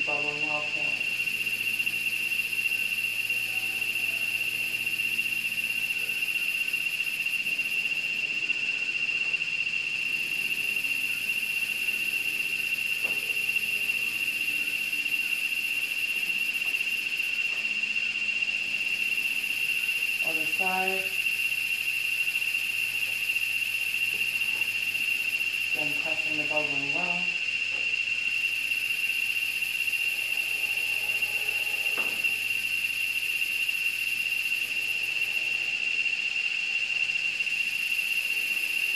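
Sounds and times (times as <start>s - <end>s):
shrill insect chorus: 0.0s - 38.9s.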